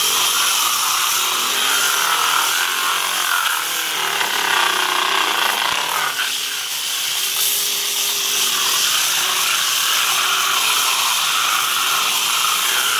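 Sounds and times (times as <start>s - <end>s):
angle grinder motor whine: 0.0s - 12.9s.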